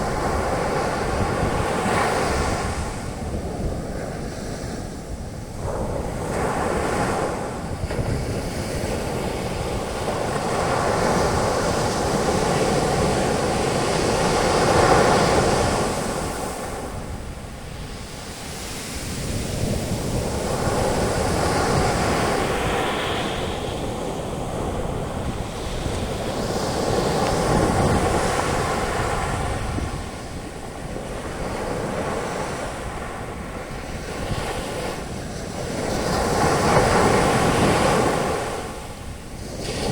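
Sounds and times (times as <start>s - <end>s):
wind on microphone: 0.0s - 39.9s
ocean waves breaking: 5.6s - 39.9s.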